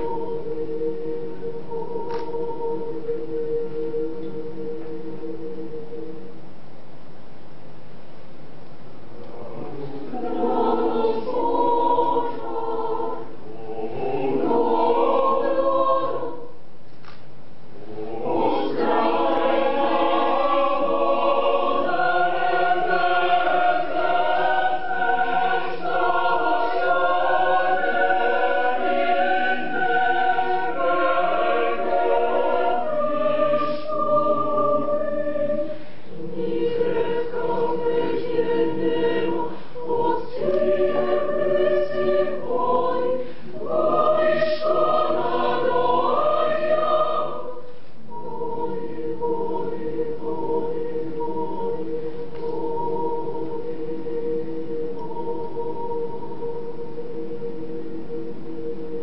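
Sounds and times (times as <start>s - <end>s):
choir singing a cappella: 0.0s - 6.4s, 9.2s - 16.7s, 17.8s - 59.0s.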